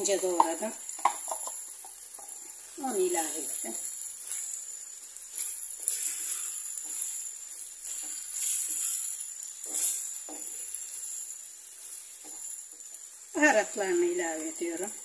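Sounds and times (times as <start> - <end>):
meat and onion sizzling in a pan: 0.0 - 15.0
wooden spoon scraping a pan: 0.0 - 15.0.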